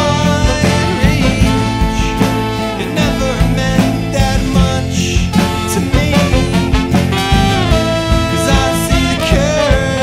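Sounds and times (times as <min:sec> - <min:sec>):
rock band playing instrumental: 0:00.0 - 0:10.0
steady drum beat: 0:00.0 - 0:10.0.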